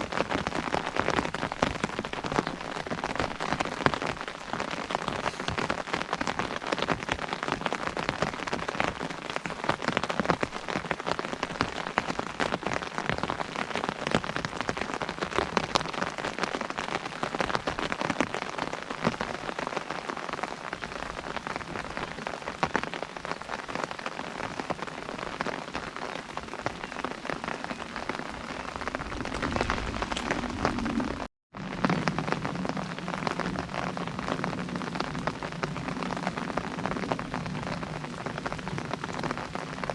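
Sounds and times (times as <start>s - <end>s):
rain drumming on umbrella: 0.0s - 39.9s.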